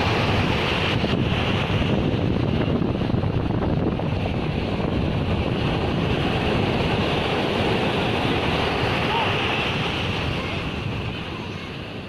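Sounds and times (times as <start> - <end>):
rough surf breaking on pebbles: 0.0 - 11.3
wind buffeting microphone: 0.0 - 12.0.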